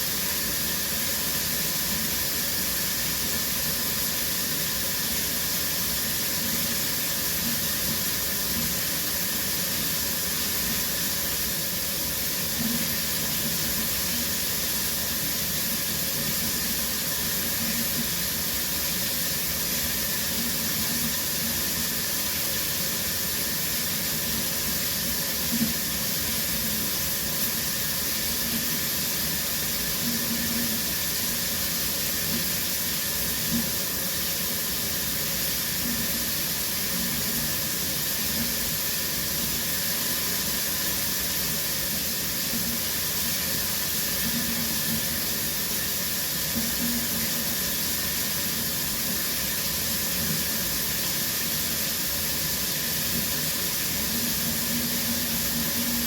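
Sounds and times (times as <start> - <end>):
shower water spray hissing: 0.0 - 56.0.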